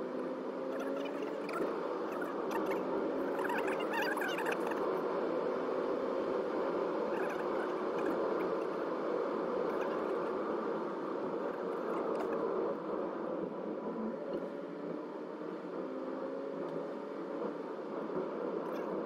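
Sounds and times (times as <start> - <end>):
road and engine noise inside car: 0.0 - 19.0.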